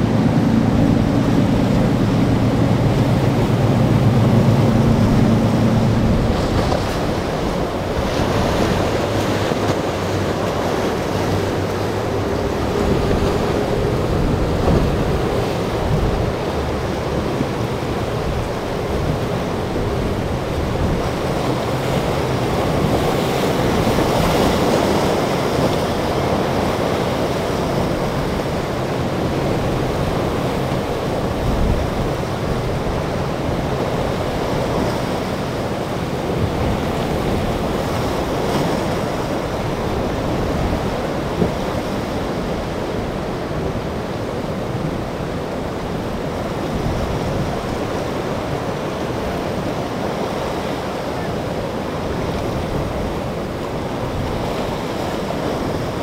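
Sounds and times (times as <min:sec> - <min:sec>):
wind buffeting microphone: 0:00.0 - 0:50.1
breaking waves rushing: 0:00.0 - 0:56.0
faint outboard engine drone: 0:00.0 - 0:56.0.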